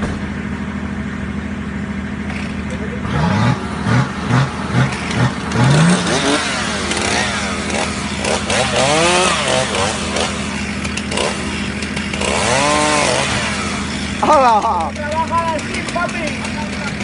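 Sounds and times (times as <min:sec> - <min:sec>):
vehicle engine idling: 0:00.0 - 0:17.0
chainsaw revving: 0:02.2 - 0:17.0.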